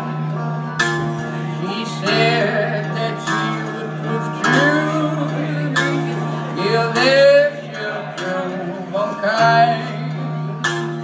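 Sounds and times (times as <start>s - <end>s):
picked acoustic blues guitar: 0.0s - 11.0s
man singing: 1.4s - 11.0s.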